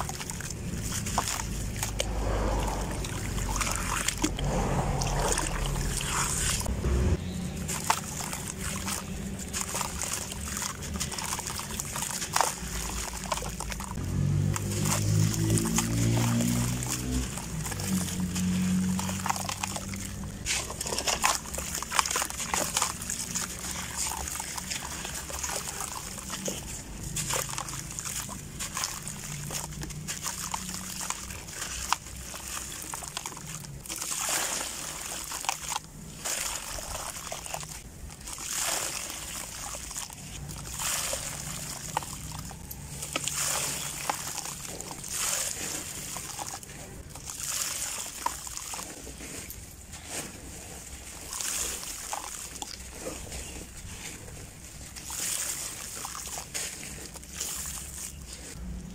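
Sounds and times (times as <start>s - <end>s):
grit crumbling into water: 0.0s - 6.7s, 7.6s - 58.6s
water sloshing: 0.0s - 58.9s.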